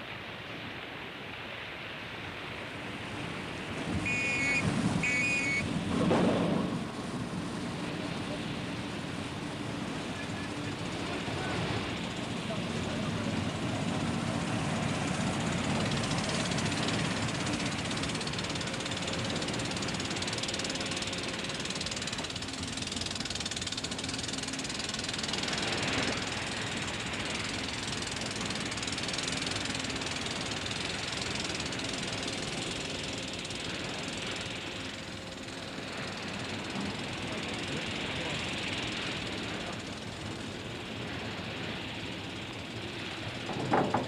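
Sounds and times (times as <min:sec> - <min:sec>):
faint low engine hum: 0:00.0 - 0:44.0
ship rumble and hiss: 0:00.0 - 0:44.0.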